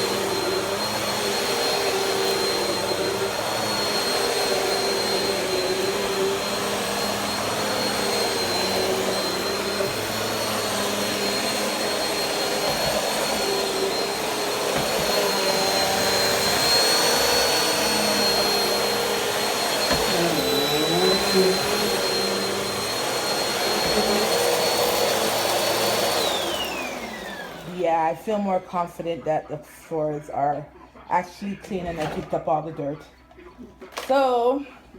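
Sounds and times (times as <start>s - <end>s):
vacuum cleaner running: 0.0s - 29.2s.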